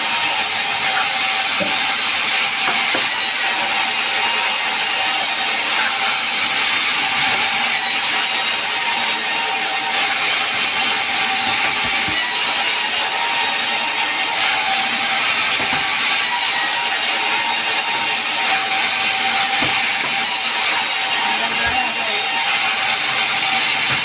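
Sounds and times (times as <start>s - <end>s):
sawmill saw running: 0.0s - 24.0s.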